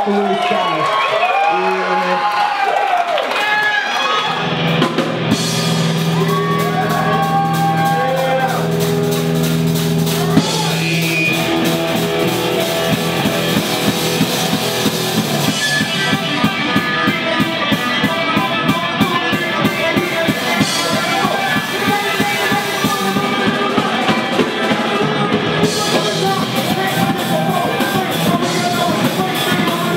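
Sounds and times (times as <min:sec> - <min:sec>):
guitar chords: 0:04.3 - 0:29.9
drums fast beat: 0:04.4 - 0:29.9.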